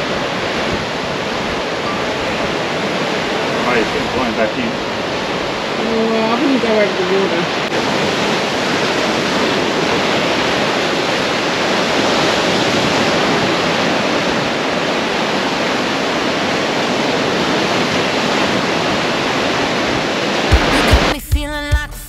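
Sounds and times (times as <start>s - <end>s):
surf breaking on rocks: 0.0s - 21.1s.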